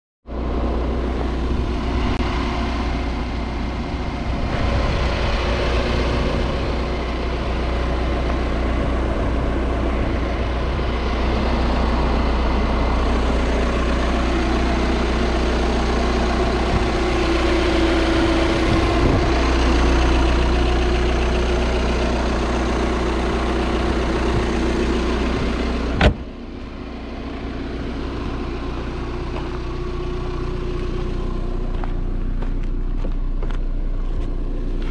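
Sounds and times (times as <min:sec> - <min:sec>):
diesel engine idling: 0:00.2 - 0:34.9.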